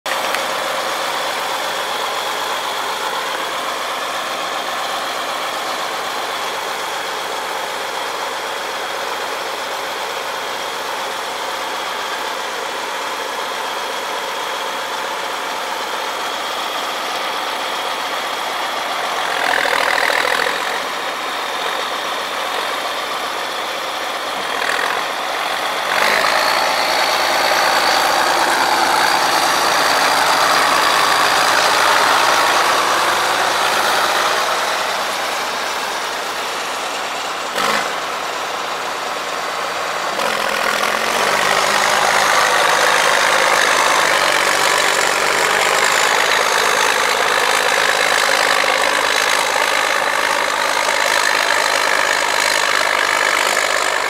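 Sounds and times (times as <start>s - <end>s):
diesel engine running: 0.1s - 54.0s.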